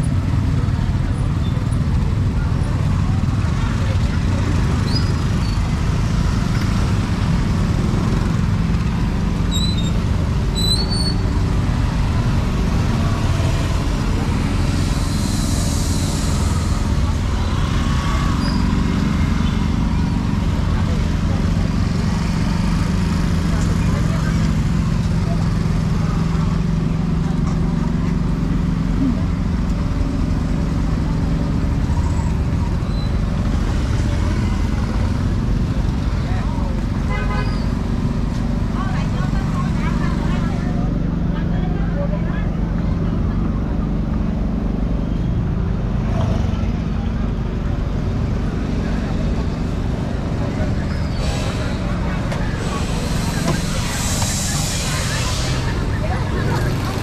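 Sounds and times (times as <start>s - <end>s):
people talking: 0.0s - 8.4s, 16.4s - 57.0s
motor traffic rumble: 0.0s - 57.0s.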